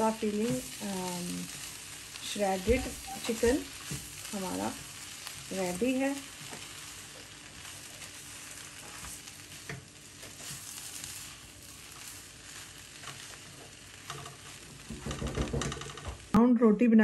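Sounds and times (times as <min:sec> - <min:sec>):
spatula stirring and scraping: 0:00.0 - 0:16.3
filling sizzling in a wok: 0:00.0 - 0:16.4.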